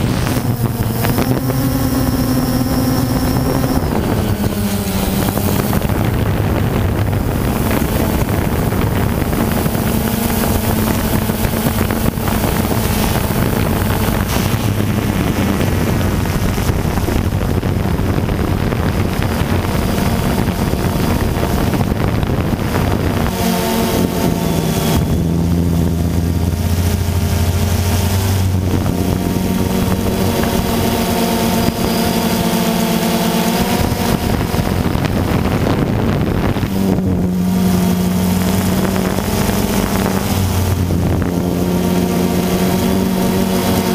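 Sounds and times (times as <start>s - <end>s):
drone motors humming: 0.0s - 43.9s
wind noise on microphone: 0.0s - 43.9s.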